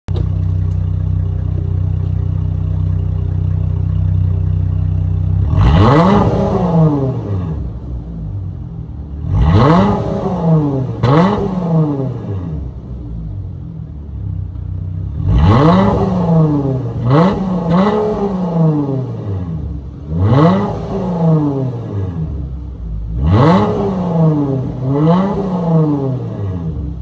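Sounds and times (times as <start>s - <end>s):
car exhaust idling and revving: 0.1s - 27.0s.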